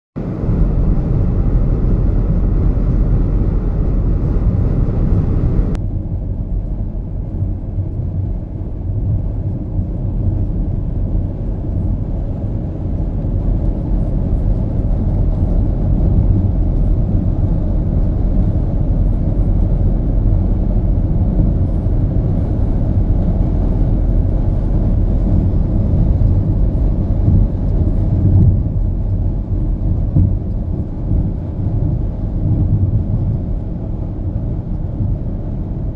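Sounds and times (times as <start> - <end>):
steady low rumble: 0.2 - 35.9.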